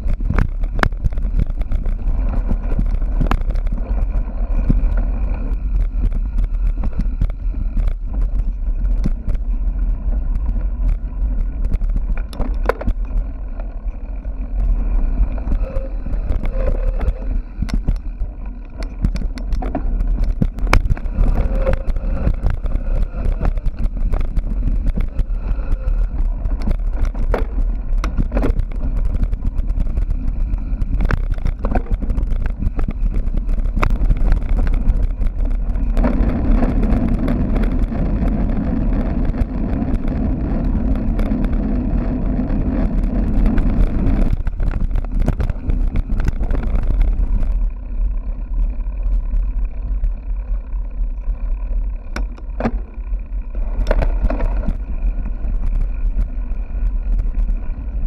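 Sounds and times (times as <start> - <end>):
bike knocking and rattling: 0.0 - 58.0
wind rumble on microphone: 0.0 - 58.0.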